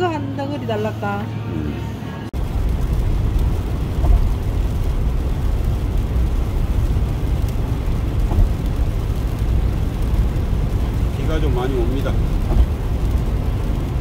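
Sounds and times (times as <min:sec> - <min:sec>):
tyre and engine rumble: 0:00.0 - 0:14.0.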